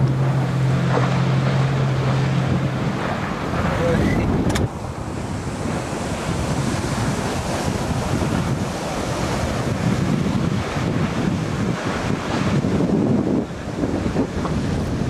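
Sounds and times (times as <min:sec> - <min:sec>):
surf breaking: 0:00.0 - 0:15.0
wind buffeting microphone: 0:00.0 - 0:15.0.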